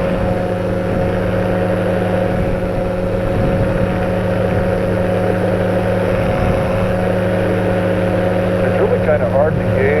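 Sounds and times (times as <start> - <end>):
engine and propeller droning: 0.0 - 10.0.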